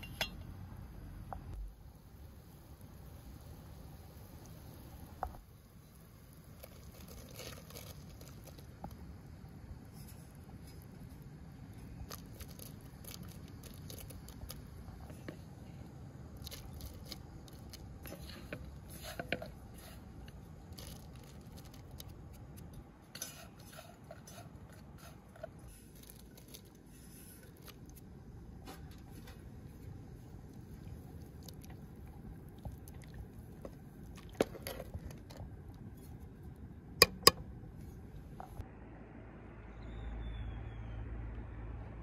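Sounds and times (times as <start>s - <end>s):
broth boiling in metal pot: 0.0s - 37.5s.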